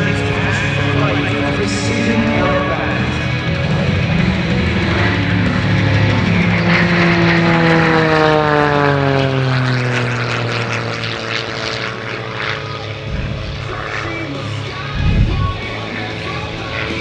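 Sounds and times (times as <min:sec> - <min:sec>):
plane engine and propeller running: 0:00.0 - 0:17.0.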